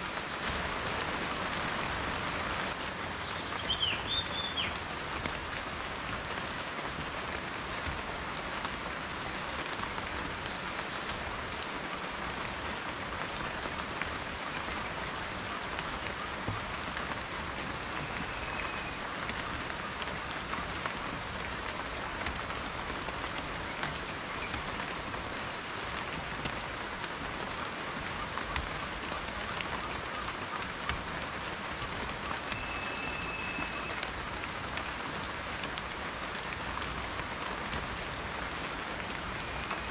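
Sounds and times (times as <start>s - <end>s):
steady rain falling: 0.0s - 39.9s
raindrops ticking: 2.6s - 39.9s.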